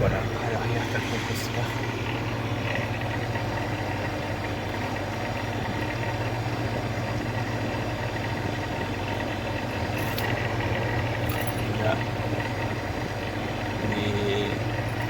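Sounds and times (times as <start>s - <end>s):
refrigeration compressor humming: 0.0s - 15.0s.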